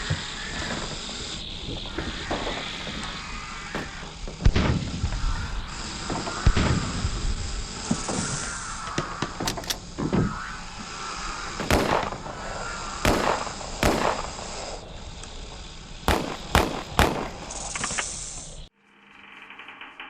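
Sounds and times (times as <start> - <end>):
steady hiss: 0.0 - 18.8
sharp bangs: 0.3 - 18.7.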